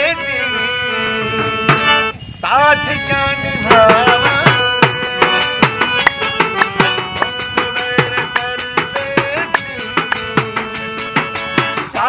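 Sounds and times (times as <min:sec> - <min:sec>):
keyed string instrument melody: 0:00.0 - 0:12.0.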